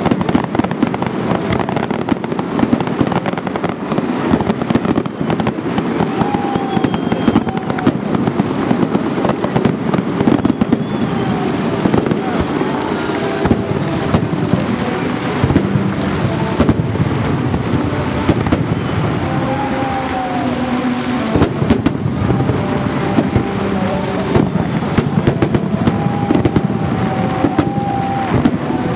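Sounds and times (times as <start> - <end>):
fireworks bangs and crackles: 0.0 - 28.9
low rumbling: 0.0 - 28.9.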